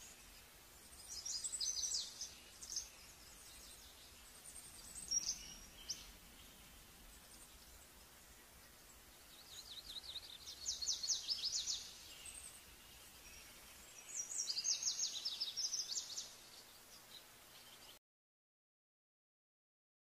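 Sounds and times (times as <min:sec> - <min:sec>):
faint background noise: 0:00.0 - 0:18.0
songbird twittering: 0:00.0 - 0:18.0.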